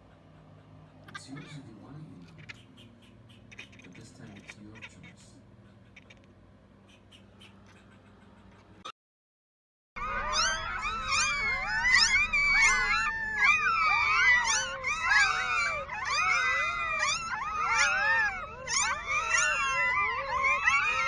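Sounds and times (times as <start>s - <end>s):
animals squealing: 0.0s - 8.9s, 10.0s - 21.0s.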